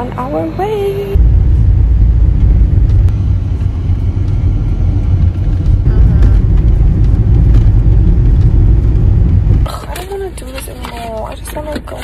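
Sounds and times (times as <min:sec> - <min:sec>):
car road and wind rumble: 0:00.0 - 0:12.0.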